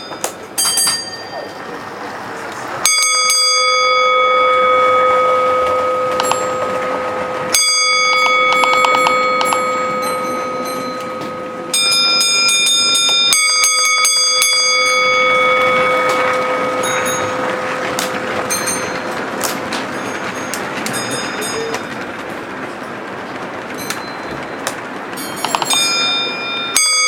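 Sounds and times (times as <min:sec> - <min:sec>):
bell ringing: 0:00.0 - 0:02.0, 0:02.8 - 0:27.0.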